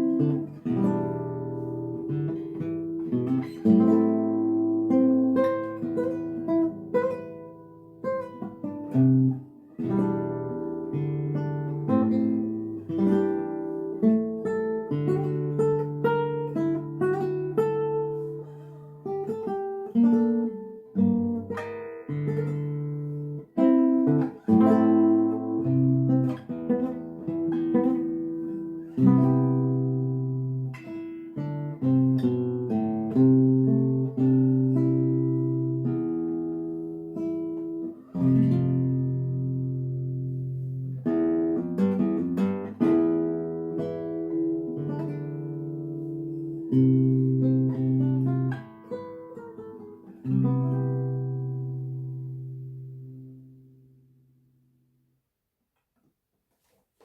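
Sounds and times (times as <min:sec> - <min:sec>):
solo guitar playing: 0:00.0 - 0:55.0.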